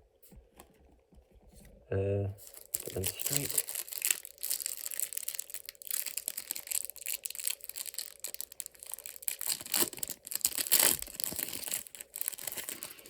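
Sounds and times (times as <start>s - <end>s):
foil wrapper crinkling: 2.4s - 13.0s
wrapper tearing: 2.4s - 13.0s.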